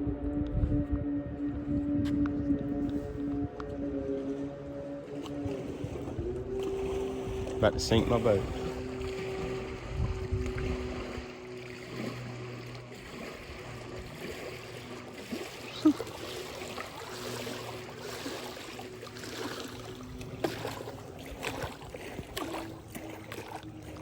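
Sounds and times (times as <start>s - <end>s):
moving water: 0.0s - 24.0s
small boat motor running: 0.0s - 24.0s.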